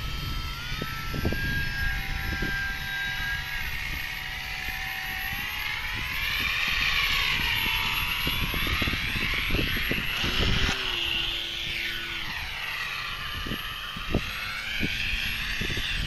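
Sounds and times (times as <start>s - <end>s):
electric motor whine: 0.0s - 16.0s
model plane gas engine buzz: 0.0s - 16.0s.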